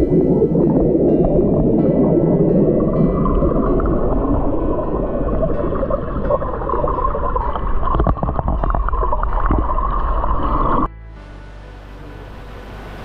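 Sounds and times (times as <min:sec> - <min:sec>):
muffled underwater water rushing: 0:00.0 - 0:10.9.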